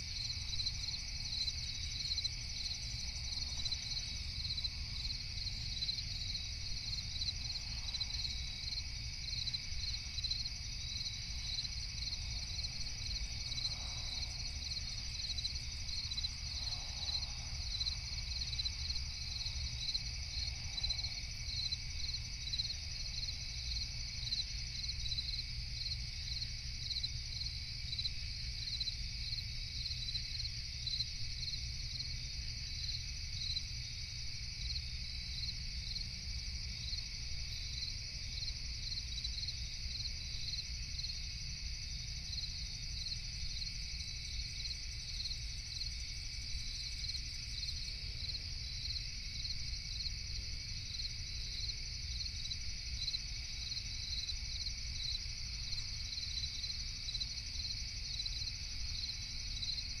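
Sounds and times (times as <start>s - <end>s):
crickets chirping: 0.0s - 60.0s.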